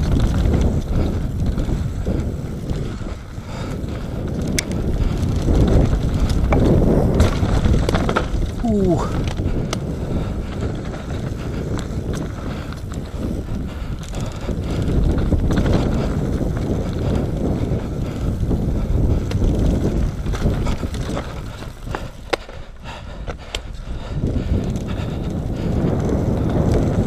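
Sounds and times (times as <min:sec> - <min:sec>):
bike rattling clicks and knocks: 0:00.0 - 0:27.0
tyres and wind rumbling: 0:00.0 - 0:27.0.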